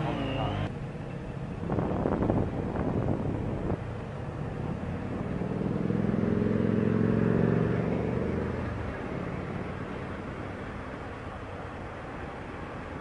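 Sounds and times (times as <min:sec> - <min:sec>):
road and wind noise: 0:00.0 - 0:13.0
vehicle engine hum: 0:00.0 - 0:13.0.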